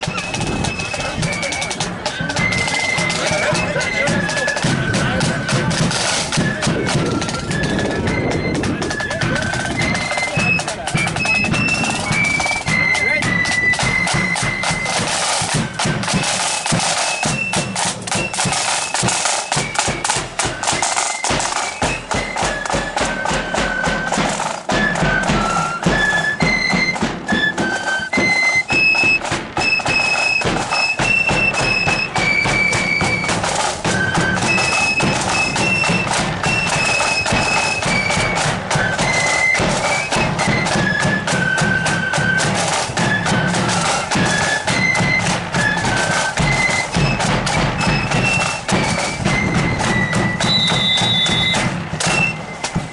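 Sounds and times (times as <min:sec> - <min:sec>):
flutes playing melody: 0:00.0 - 0:52.9
marching drums: 0:00.0 - 0:52.9.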